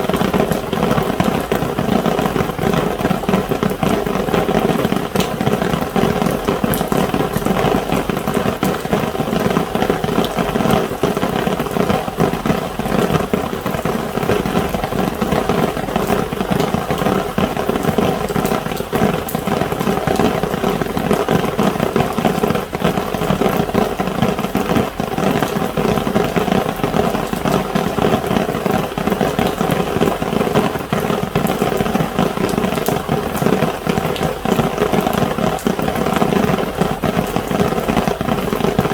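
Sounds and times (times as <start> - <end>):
heavy rain drumming on umbrella: 0.0 - 38.9.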